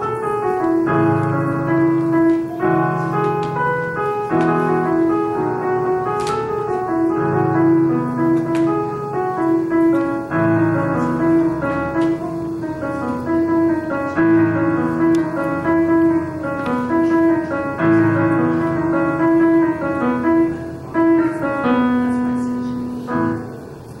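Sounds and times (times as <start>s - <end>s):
electronic keyboard piano melody: 0.0s - 24.0s.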